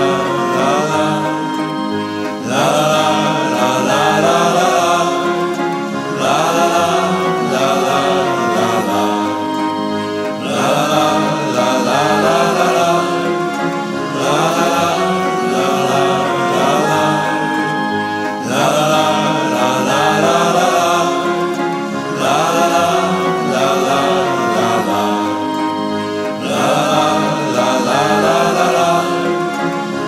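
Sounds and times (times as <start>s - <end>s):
group of voices singing: 0.0s - 30.0s
waltz music: 0.0s - 30.0s.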